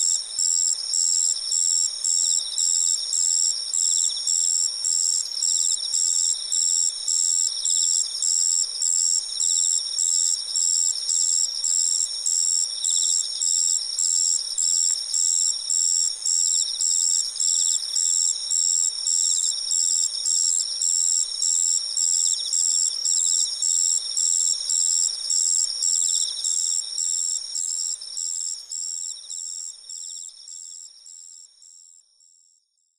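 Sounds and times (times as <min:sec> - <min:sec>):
loud cricket chirping: 0:00.1 - 0:31.5.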